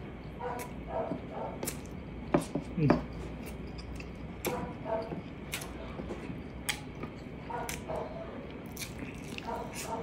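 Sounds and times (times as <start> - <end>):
person chewing: 0.4 - 10.0.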